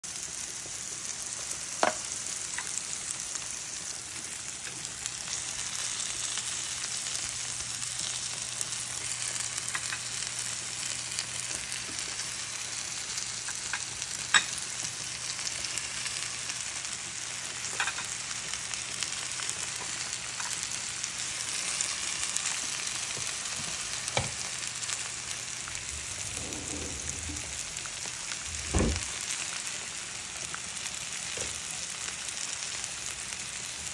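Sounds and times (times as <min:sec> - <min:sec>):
vegetables sizzling in a pan: 0:00.0 - 0:33.9.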